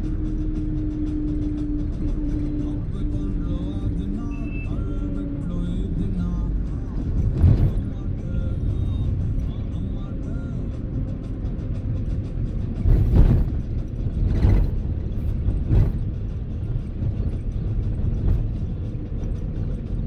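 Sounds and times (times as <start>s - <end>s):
vehicle road rumble: 0.0s - 20.0s.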